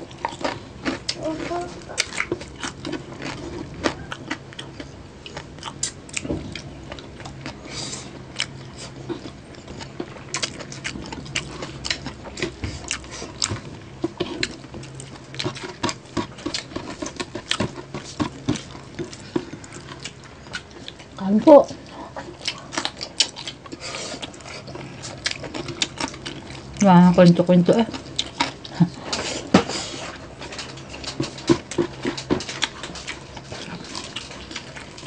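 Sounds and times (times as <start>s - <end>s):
crunchy chewing: 0.0s - 26.9s, 27.8s - 35.0s
faint low hum: 0.0s - 35.0s.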